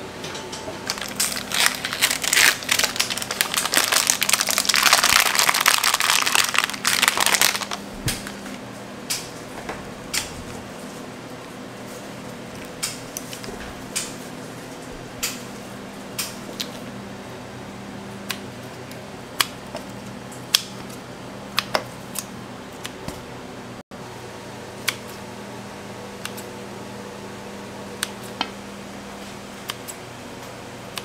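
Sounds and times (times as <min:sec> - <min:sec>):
kitchen equipment hum: 0:00.0 - 0:31.0.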